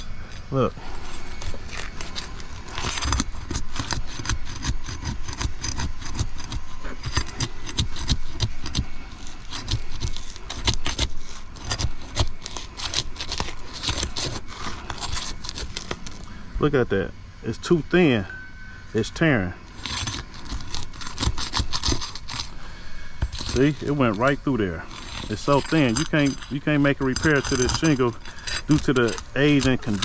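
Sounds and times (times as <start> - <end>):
asphalt shingle crackling and tearing: 0.0 - 16.8, 19.0 - 30.0.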